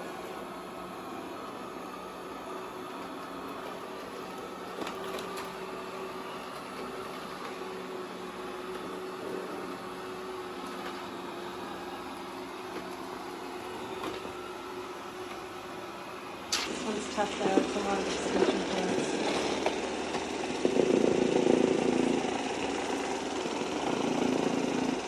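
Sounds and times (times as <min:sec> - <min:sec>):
robot vacuum motor whirring: 0:01.5 - 0:25.0.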